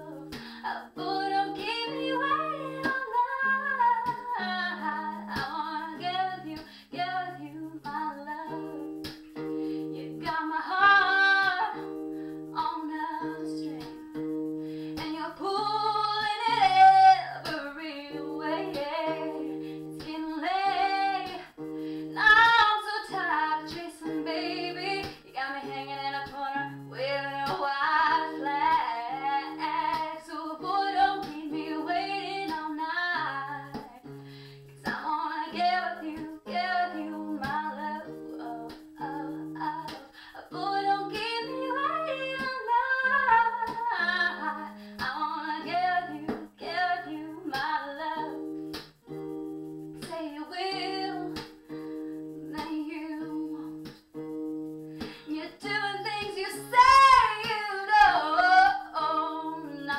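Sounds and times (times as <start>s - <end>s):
woman singing: 0.0s - 48.9s, 49.9s - 54.2s, 55.0s - 59.9s
acoustic guitar chords: 0.0s - 59.9s.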